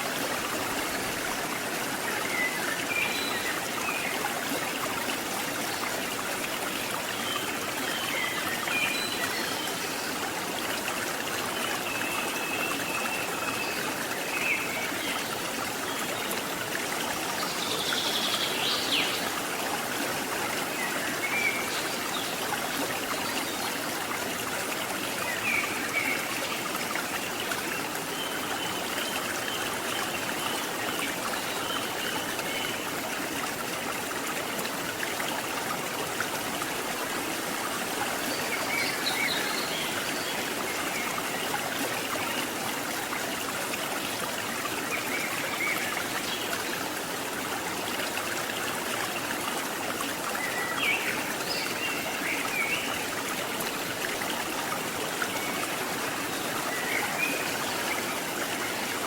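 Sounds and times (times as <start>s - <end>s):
river water rushing and splashing: 0.0s - 59.0s.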